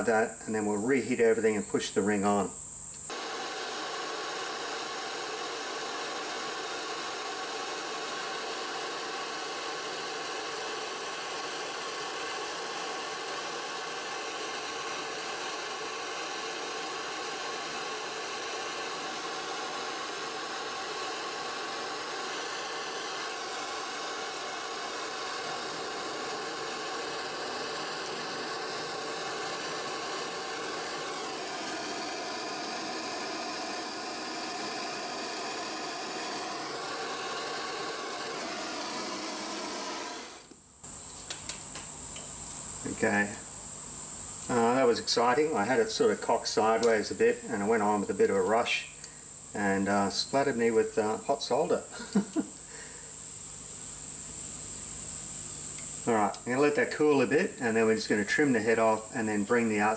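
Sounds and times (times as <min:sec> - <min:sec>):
gas torch flame hissing: 0:00.0 - 0:59.9.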